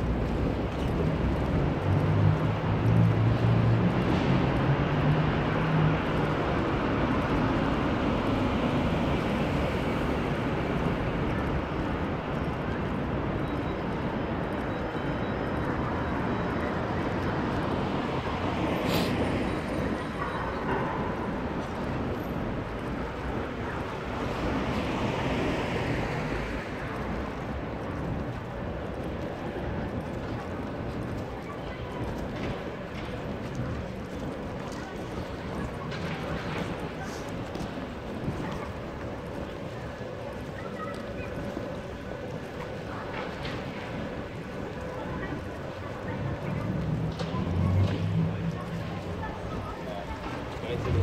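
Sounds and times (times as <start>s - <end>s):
road noise from passing cars: 0.0s - 51.0s.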